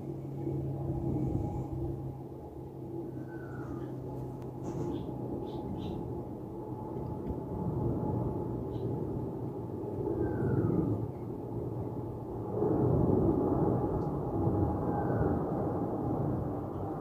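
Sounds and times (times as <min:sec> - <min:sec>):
faint engine whine: 0:00.0 - 0:17.0
jet engines rumbling: 0:00.0 - 0:17.0.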